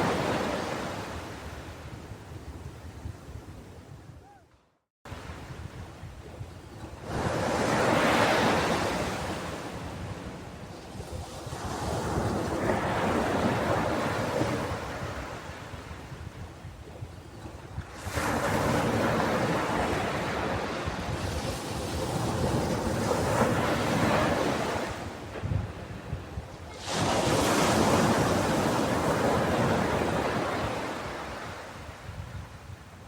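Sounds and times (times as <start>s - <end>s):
ocean waves breaking on beach: 0.0s - 3.4s, 5.1s - 33.0s.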